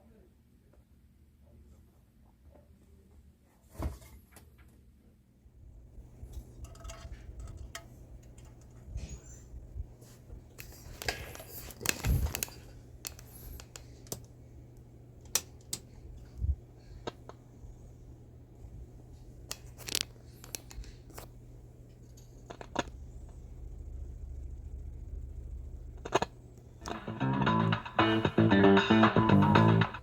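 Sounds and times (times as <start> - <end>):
steady low hum: 5.3 - 30.0.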